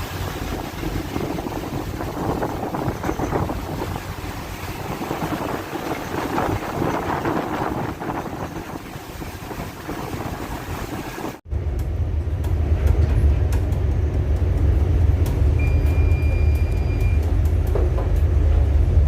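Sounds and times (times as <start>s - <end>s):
strong wind: 0.0s - 15.8s
ship engine rumbling: 0.0s - 19.0s
stormy sea: 0.0s - 19.0s.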